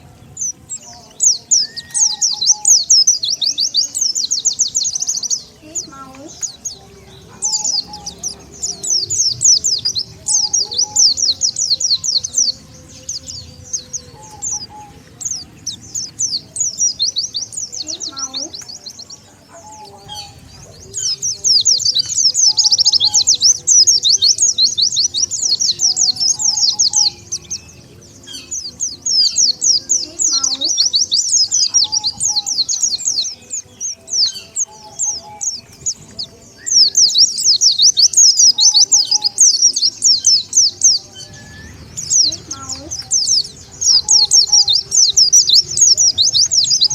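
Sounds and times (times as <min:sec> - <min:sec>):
bird chirping high thin song: 0:00.0 - 0:46.9.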